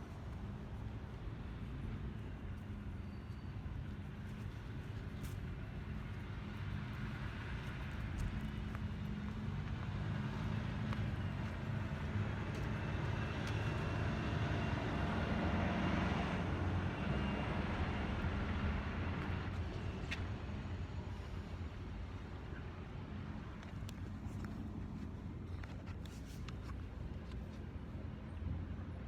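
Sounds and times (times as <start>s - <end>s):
bus engine rumble: 0.0s - 29.0s
road noise: 0.0s - 29.0s.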